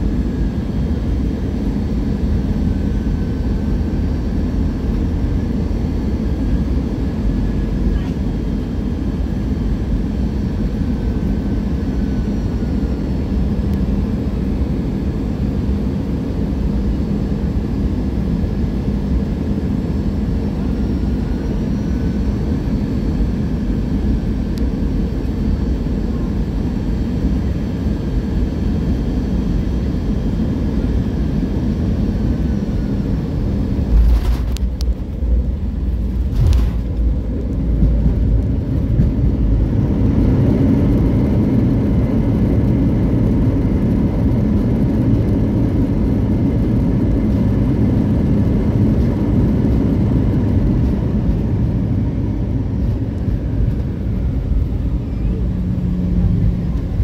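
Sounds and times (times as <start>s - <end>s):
faint steady whine: 0.0s - 57.0s
jet engines rumbling in cabin: 0.0s - 57.0s.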